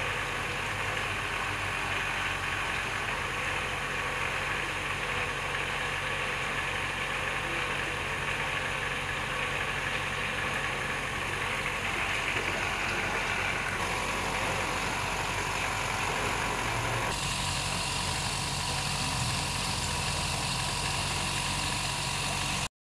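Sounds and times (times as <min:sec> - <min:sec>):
machine humming: 0:00.0 - 0:22.7.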